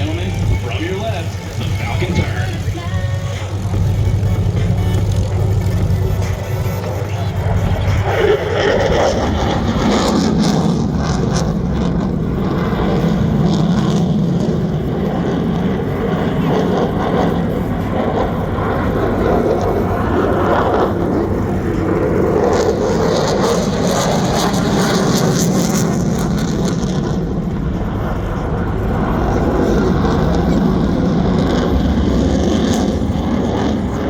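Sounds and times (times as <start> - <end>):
fighter jet engine rush: 0.0 - 34.0.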